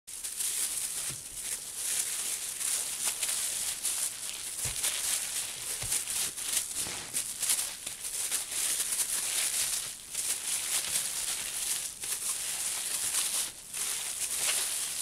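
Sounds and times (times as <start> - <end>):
plastic rustling and swishing: 0.1 - 15.0.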